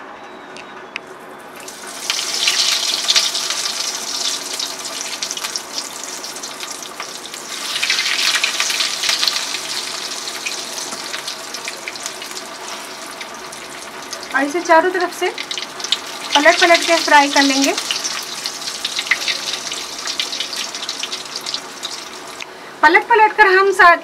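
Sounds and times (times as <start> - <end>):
food deep-frying in hot oil: 1.5 - 22.5.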